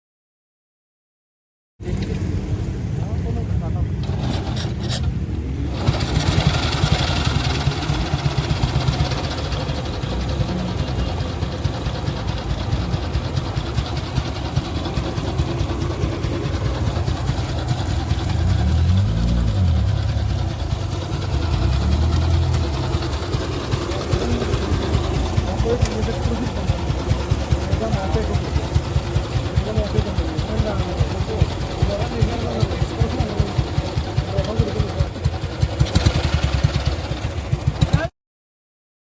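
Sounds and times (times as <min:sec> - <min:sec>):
motorcycle engine revving: 0:01.8 - 0:03.1, 0:04.0 - 0:38.1
motorcycle engine running: 0:01.8 - 0:38.1.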